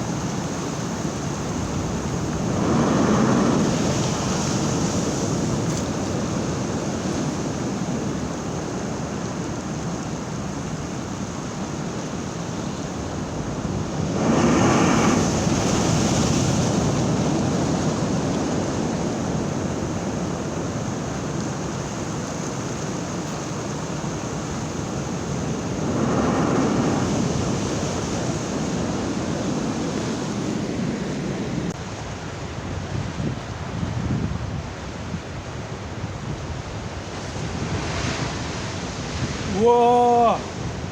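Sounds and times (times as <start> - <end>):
waves washing: 0.0 - 33.8, 34.6 - 40.9.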